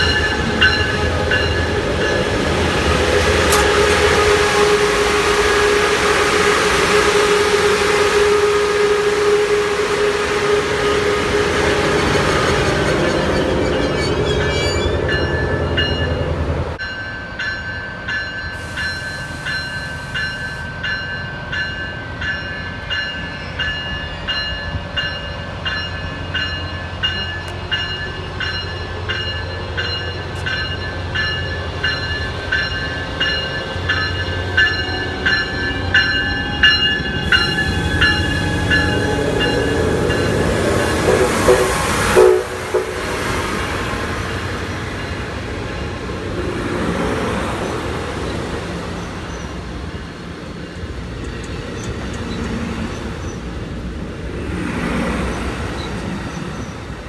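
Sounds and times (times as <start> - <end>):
train bell ringing: 0.0 - 2.6, 3.2 - 5.2, 6.7 - 46.3, 48.0 - 53.4
diesel locomotive rumble: 0.0 - 17.0, 18.1 - 57.0.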